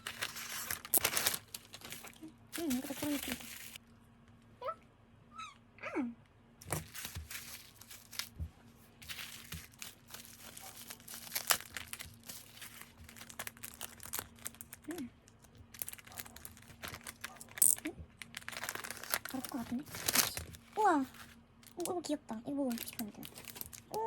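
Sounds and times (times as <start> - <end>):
packaging crinkling and tearing: 0.0 - 3.8, 6.6 - 8.4, 9.0 - 24.0.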